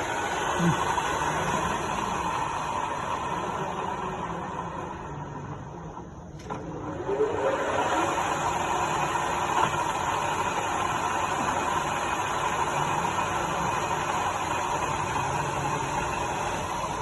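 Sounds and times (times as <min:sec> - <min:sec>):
milling machine motor whine: 0:00.0 - 0:17.0.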